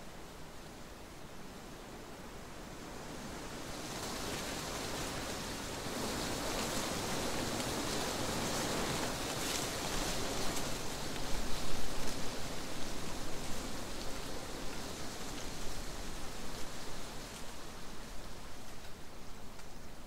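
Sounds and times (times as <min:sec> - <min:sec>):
wind rustling leaves: 0:00.0 - 0:20.0.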